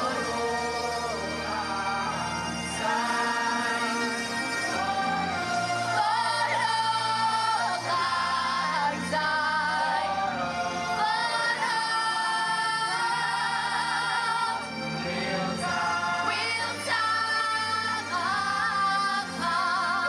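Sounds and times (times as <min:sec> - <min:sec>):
backing music: 0:00.0 - 0:20.0
women singing in harmony: 0:00.0 - 0:20.0.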